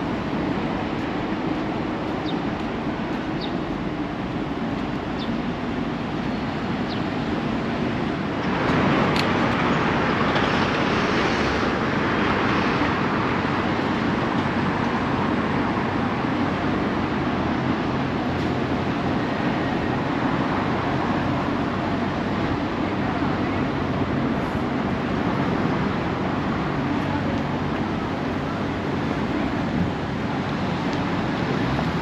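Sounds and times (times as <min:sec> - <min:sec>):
street traffic noise: 0:00.0 - 0:32.0.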